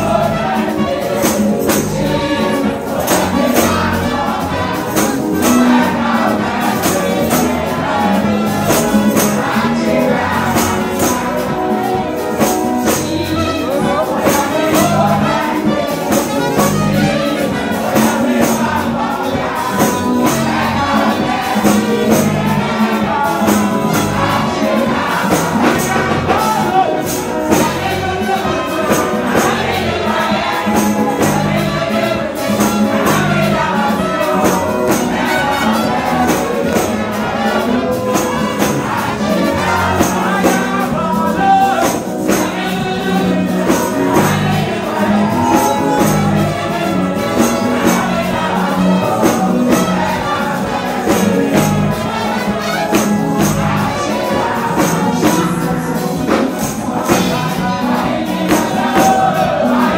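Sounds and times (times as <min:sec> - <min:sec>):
people singing gospel: 0:00.0 - 0:59.9
percussion beat: 0:00.0 - 0:59.9.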